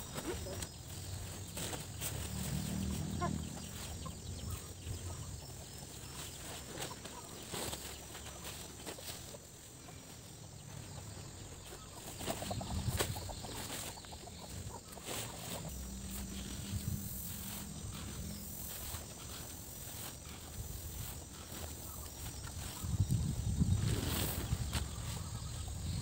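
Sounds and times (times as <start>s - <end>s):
plastic sacks rustling and scraping: 0.0s - 9.5s, 10.7s - 26.0s.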